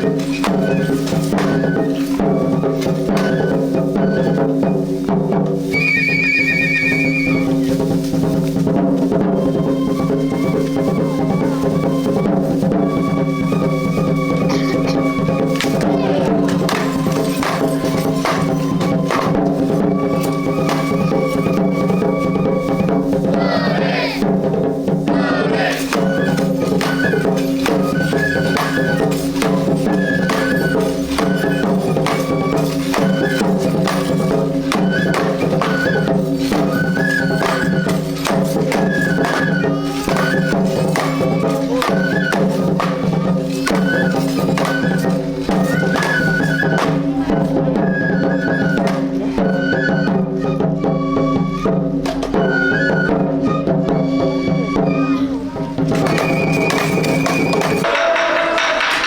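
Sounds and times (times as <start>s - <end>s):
flute melody: 0.0s - 59.0s
quick drum strokes: 0.0s - 59.0s.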